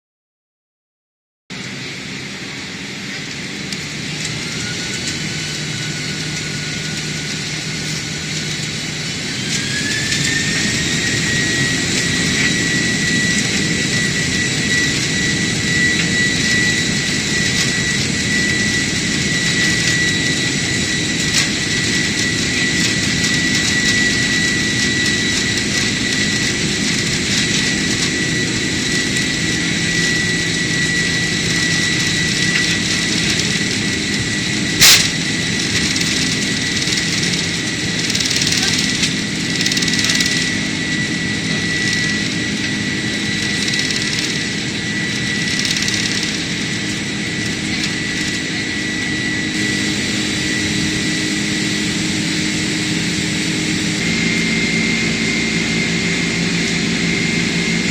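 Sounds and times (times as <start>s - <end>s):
jet engine whine: 1.5s - 57.9s
loud jet rumble: 1.5s - 57.9s.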